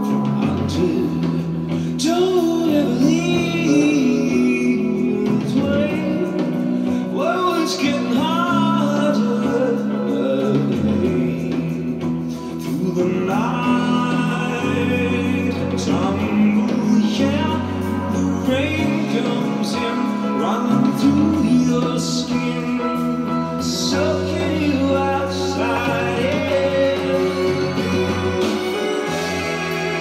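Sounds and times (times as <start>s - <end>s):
bass and keyboard chords: 0.0s - 30.0s
man singing: 0.0s - 30.0s.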